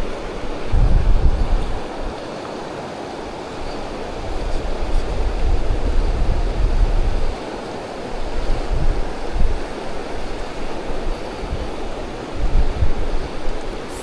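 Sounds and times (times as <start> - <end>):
wind buffeting microphone: 0.0 - 2.2, 3.2 - 7.5, 8.1 - 14.0
steady rushing noise: 0.0 - 14.0.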